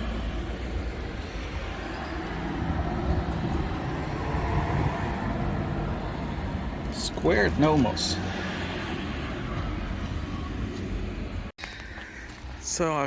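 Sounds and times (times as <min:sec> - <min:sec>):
heavy vehicle engine running: 0:00.0 - 0:11.5.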